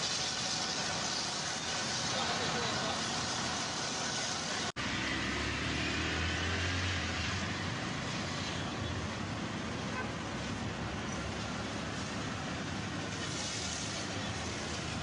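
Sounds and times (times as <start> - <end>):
low engine rumble: 0.0 - 15.0
street traffic hiss: 0.0 - 15.0.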